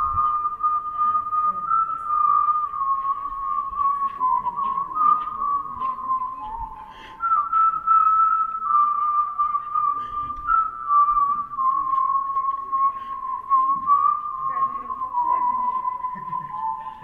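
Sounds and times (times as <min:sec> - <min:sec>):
whistled melody: 0:00.0 - 0:17.0.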